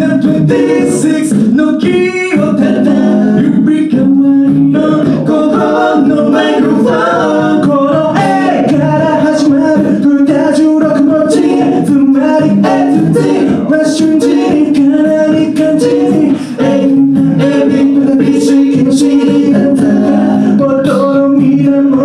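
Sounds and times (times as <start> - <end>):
vocal group singing in harmony: 0.0 - 22.0
vocal percussion beat: 0.0 - 22.0.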